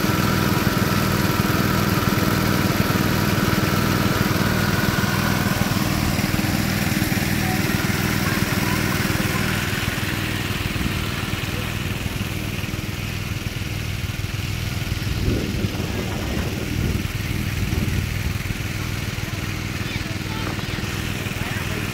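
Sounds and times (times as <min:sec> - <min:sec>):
small petrol engine running: 0:00.0 - 0:21.9
water gushing from pipe: 0:00.0 - 0:21.9.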